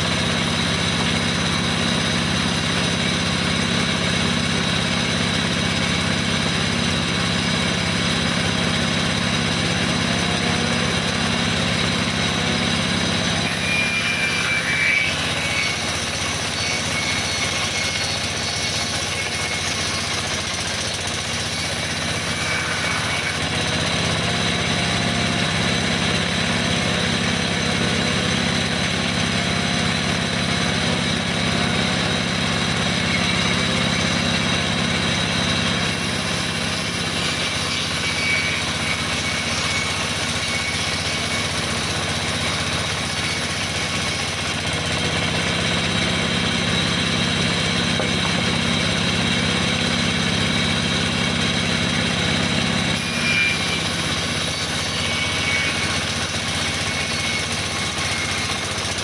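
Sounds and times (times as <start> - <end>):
band saw cutting log: 0.0 - 59.0
high saw squeals: 0.0 - 59.0.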